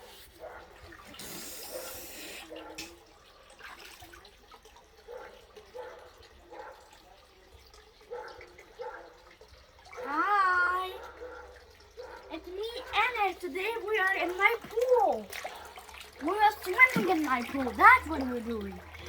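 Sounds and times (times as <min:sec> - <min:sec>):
water splashing in a pool: 0:00.0 - 0:19.0.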